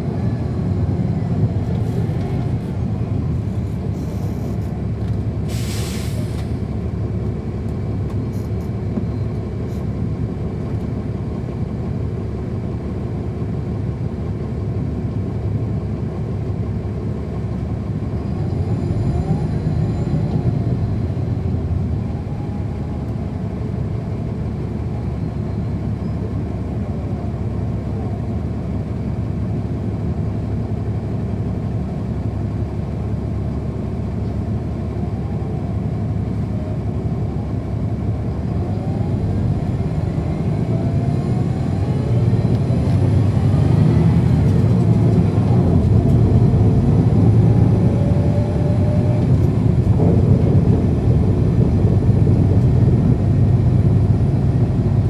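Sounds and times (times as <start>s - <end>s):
bus diesel engine rumble: 0.0s - 55.0s
engine whine: 0.0s - 55.0s.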